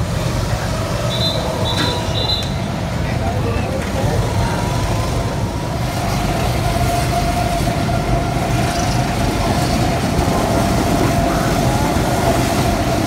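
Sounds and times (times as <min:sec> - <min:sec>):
go-kart engines rumbling: 0:00.0 - 0:13.0.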